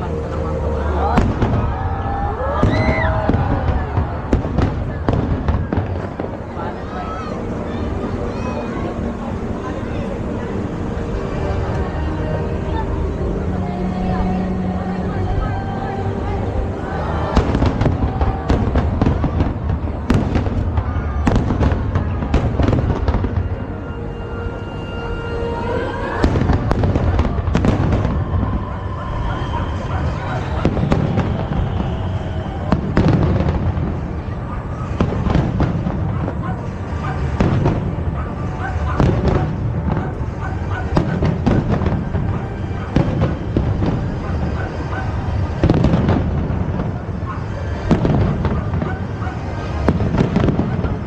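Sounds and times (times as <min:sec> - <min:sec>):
fireworks bursting: 0:00.0 - 0:09.4, 0:16.2 - 0:51.0
low rumble of explosions: 0:00.0 - 0:13.6, 0:14.6 - 0:24.2, 0:26.1 - 0:51.0
music: 0:00.0 - 0:51.0.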